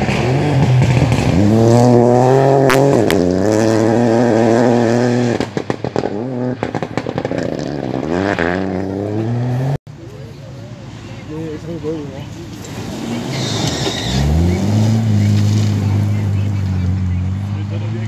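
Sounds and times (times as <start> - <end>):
exhaust crackle: 0.0 - 9.4, 12.3 - 18.0
car engine revving hard: 0.0 - 9.8, 12.7 - 18.0.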